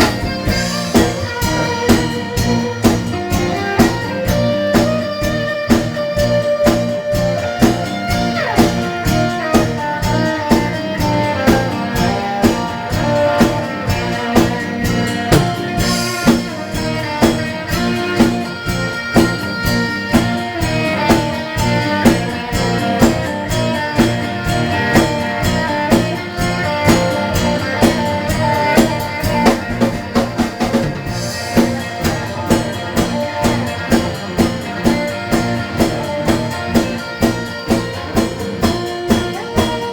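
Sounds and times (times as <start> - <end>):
drum kit beat: 0.0 - 39.9
electric guitar: 0.0 - 39.9
live band playing: 0.0 - 39.9.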